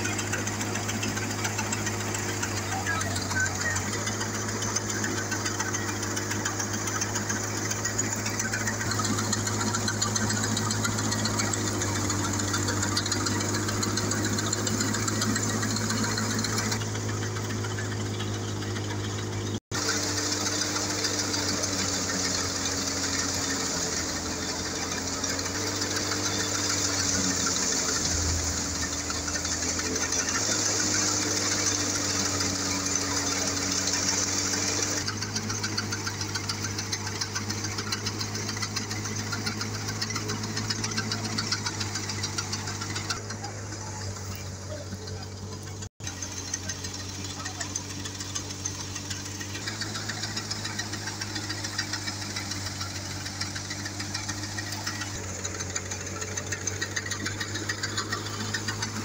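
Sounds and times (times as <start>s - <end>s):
threshing drum whirring and rattling: 0.0s - 59.0s
tractor engine drone: 0.0s - 59.0s.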